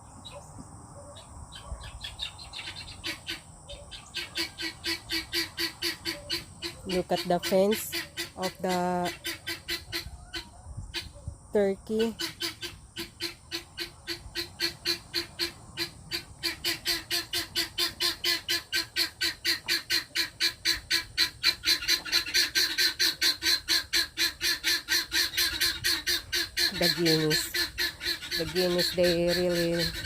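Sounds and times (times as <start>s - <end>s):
guinea fowl alarm cackle: 1.1s - 11.3s, 11.9s - 30.0s.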